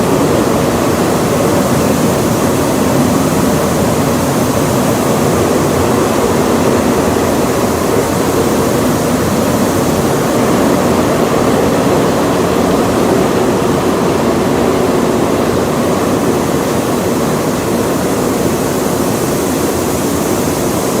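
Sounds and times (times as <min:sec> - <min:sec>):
flour mill machinery running: 0:00.0 - 0:21.0.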